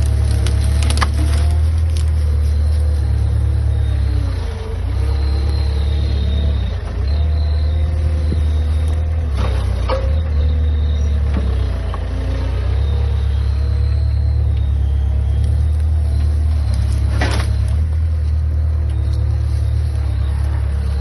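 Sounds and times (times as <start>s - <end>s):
motor humming deeply: 0.0s - 21.0s.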